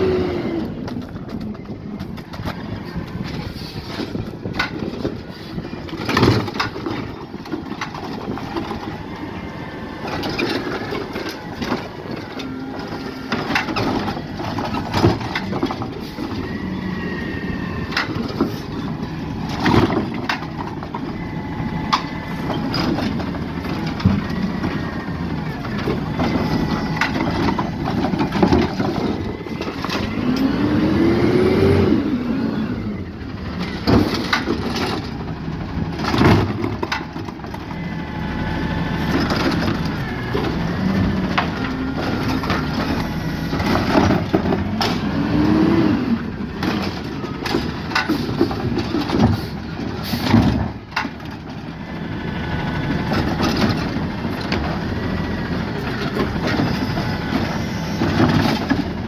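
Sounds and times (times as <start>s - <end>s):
truck engine revving: 0.0s - 1.4s, 6.0s - 59.0s
hydraulic arm lifting: 0.0s - 59.0s
truck engine rumble: 0.0s - 59.0s
recycling banging into hopper: 0.1s - 59.0s.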